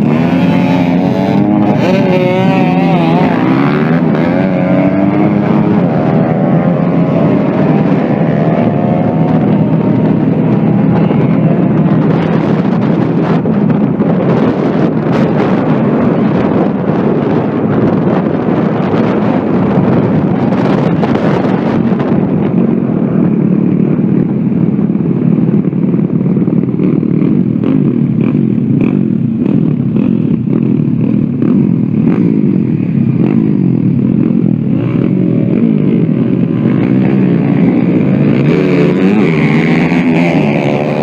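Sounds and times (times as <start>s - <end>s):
small motorcycle engines revving: 0.0s - 41.0s.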